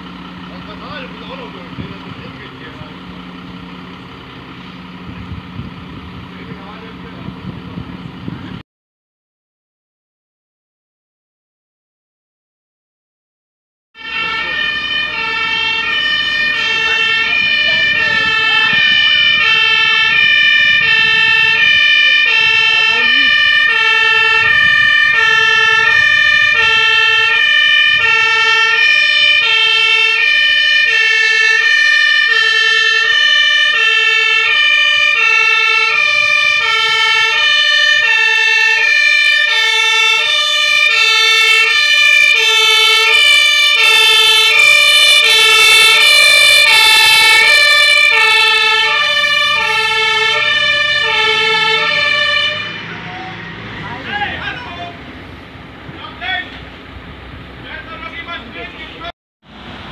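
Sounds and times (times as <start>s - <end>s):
two-tone fire engine siren: 0.0s - 8.4s, 14.0s - 55.1s.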